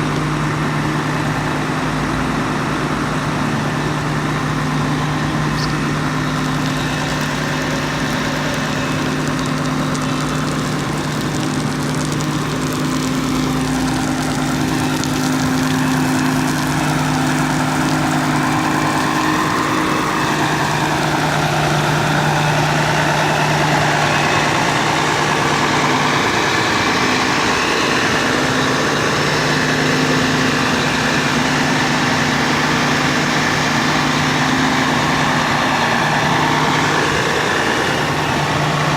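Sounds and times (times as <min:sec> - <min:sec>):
fire truck engine idling: 0:00.0 - 0:38.9.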